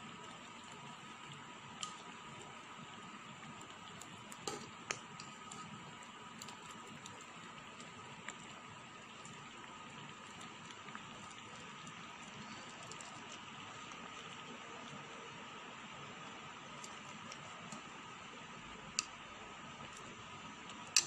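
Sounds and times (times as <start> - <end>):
pot bubbling and popping: 0.0 - 21.0.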